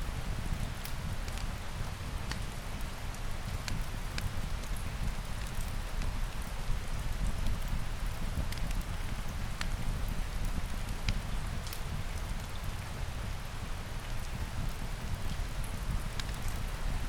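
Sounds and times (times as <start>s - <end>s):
rain falling on a surface: 0.0s - 17.0s.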